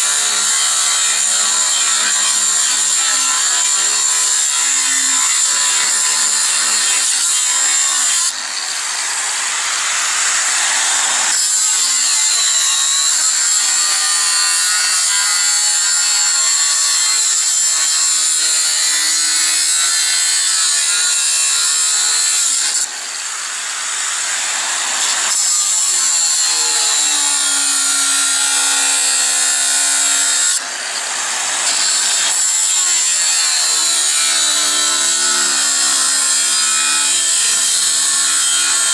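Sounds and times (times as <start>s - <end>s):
angle grinder cutting steel: 0.0s - 38.9s.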